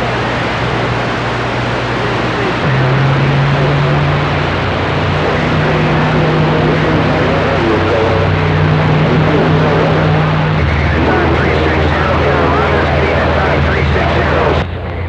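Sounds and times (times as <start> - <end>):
faint garbled distant voices: 0.0 - 15.0
low steady hum: 0.0 - 15.0
radio static: 0.0 - 15.0.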